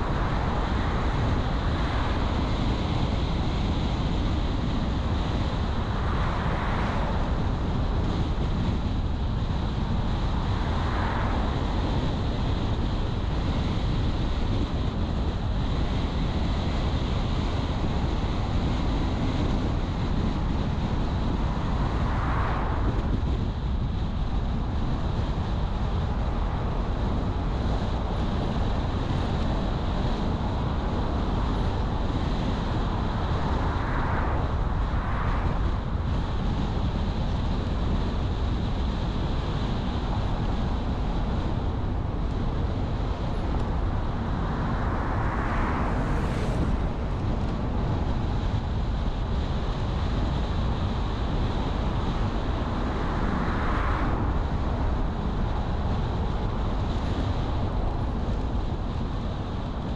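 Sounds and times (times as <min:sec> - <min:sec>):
car driving noise: 0:00.0 - 0:59.9.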